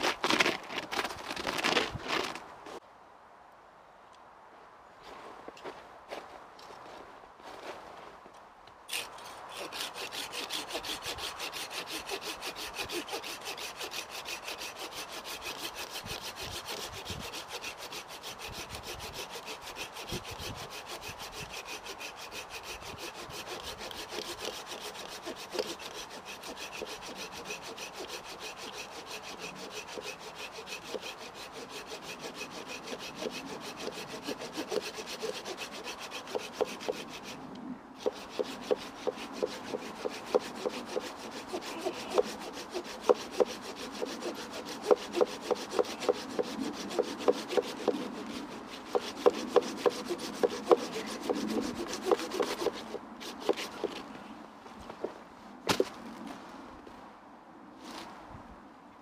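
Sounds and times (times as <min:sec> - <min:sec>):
hand saw cutting log: 0:00.0 - 0:02.4, 0:08.9 - 0:37.4, 0:38.0 - 0:54.1, 0:55.7 - 0:56.0.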